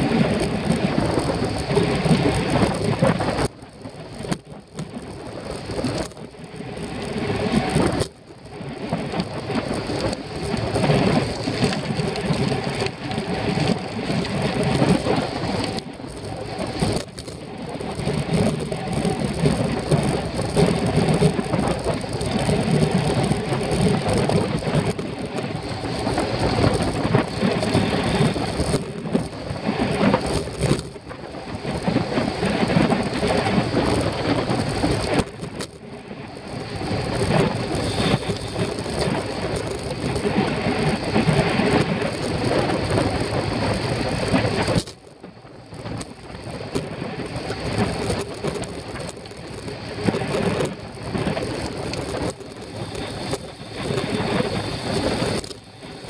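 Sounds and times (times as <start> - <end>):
bicycle rattling: 0.0 - 56.0
bicycle tyre noise on road: 0.0 - 56.0
wind buffeting microphone: 0.0 - 56.0.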